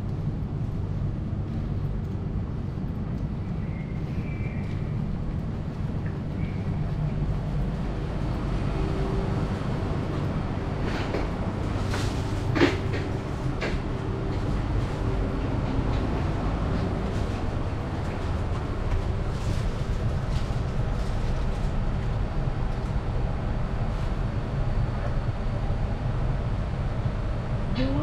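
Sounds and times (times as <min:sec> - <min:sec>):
low hum inside train car: 0:00.0 - 0:28.0.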